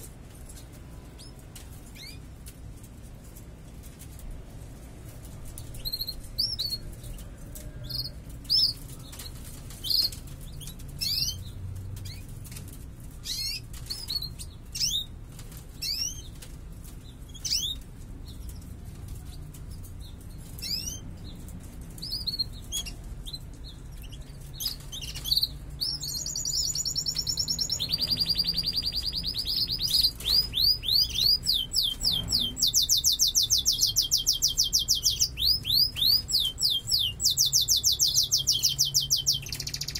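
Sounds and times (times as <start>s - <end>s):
canary trilling song: 0.0s - 2.6s, 3.2s - 39.9s
canaries chirping: 0.0s - 39.9s.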